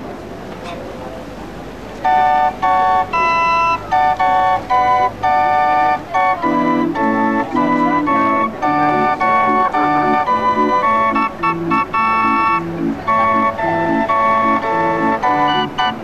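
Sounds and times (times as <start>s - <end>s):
barrel organ playing tune: 2.0s - 16.0s.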